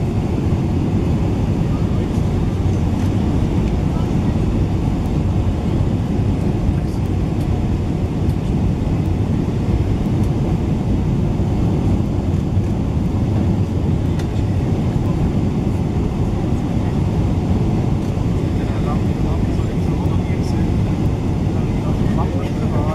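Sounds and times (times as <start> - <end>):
aircraft cabin low rumble: 0.0 - 22.9.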